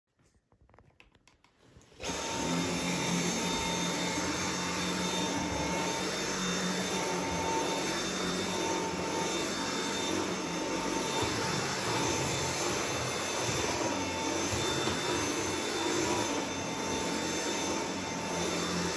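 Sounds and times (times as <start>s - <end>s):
vacuum cleaner whine: 1.8s - 18.9s.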